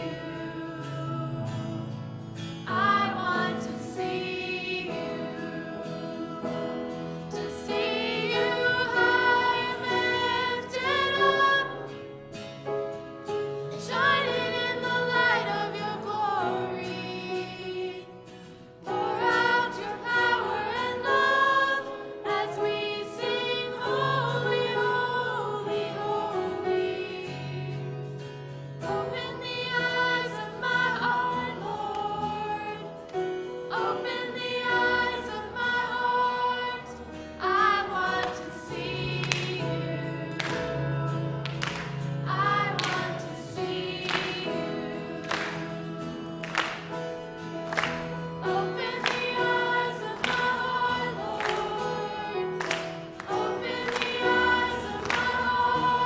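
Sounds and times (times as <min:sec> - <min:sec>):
women singing a hymn: 0:00.0 - 0:12.2, 0:13.6 - 0:56.0.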